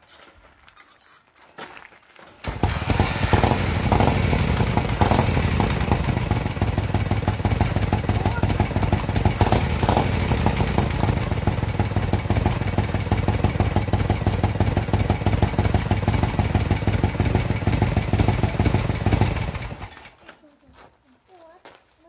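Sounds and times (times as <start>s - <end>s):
engine idling: 2.4s - 20.2s.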